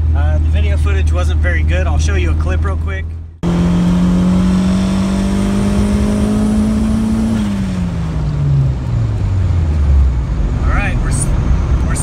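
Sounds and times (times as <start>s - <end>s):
turbocharged car engine accelerating: 0.0s - 12.0s.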